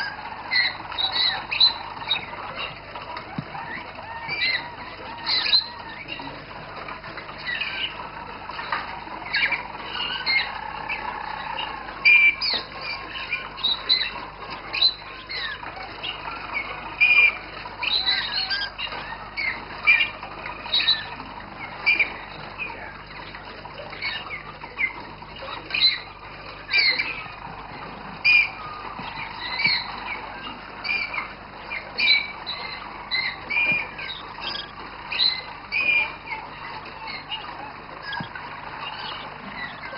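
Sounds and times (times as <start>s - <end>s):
canaries chirping: 0.0s - 39.9s.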